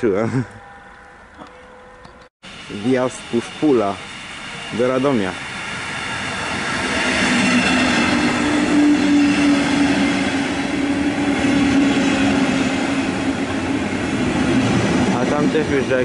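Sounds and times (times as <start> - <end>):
train coaches rumbling on rails: 2.5 - 16.0.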